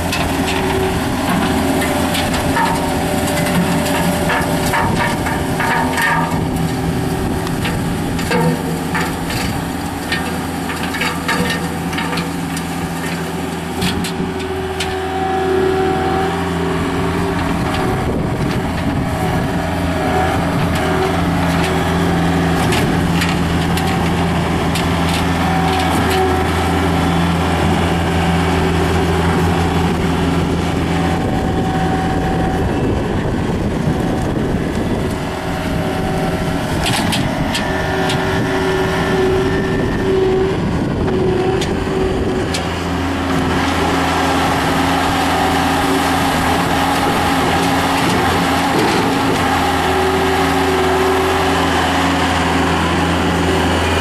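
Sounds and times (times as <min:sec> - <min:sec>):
loader engine running under load: 0:00.0 - 0:54.0
rake drum working soil: 0:00.0 - 0:54.0.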